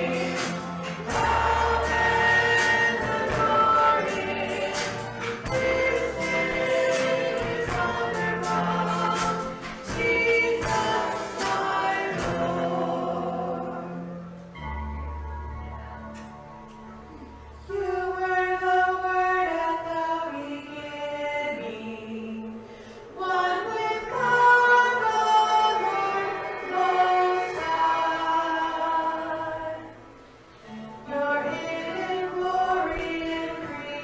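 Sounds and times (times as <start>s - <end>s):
choir singing: 0.0s - 14.9s, 17.2s - 22.6s, 23.2s - 34.0s.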